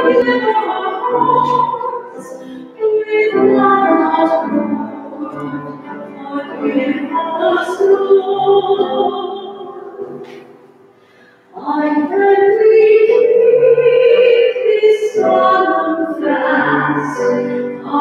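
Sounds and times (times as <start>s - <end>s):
woman singing a hymn: 0.0s - 10.6s, 11.5s - 18.0s.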